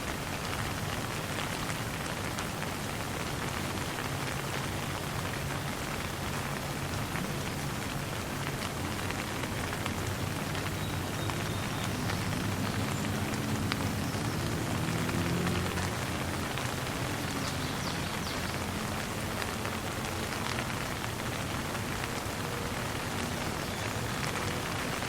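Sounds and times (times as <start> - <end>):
light rain falling: 0.0 - 25.0.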